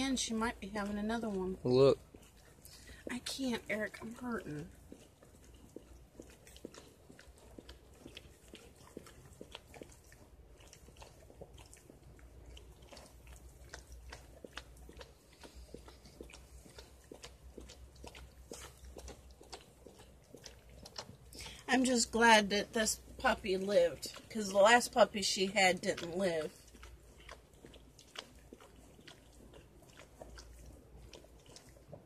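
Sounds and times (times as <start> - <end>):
dog licking wet clicks: 0.0 - 32.0.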